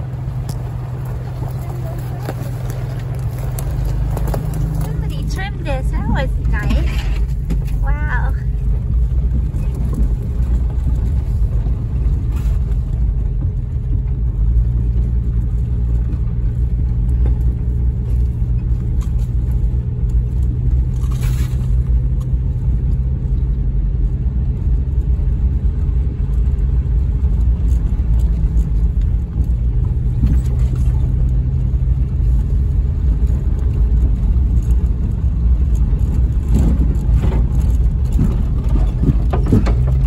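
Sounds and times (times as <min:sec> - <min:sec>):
vehicle engine and tyres rumbling: 0:00.0 - 0:40.0.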